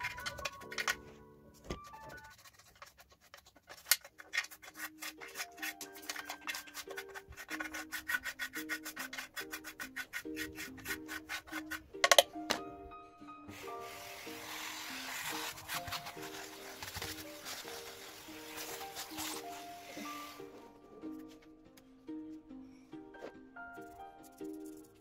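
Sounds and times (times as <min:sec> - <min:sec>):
simple background music: 0:00.0 - 0:25.0.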